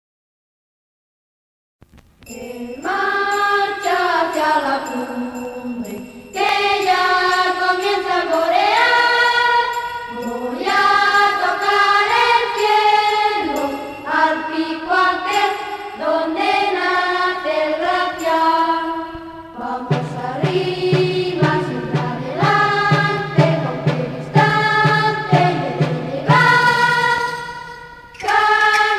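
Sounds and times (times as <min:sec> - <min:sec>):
choir singing: 0:02.3 - 0:28.9.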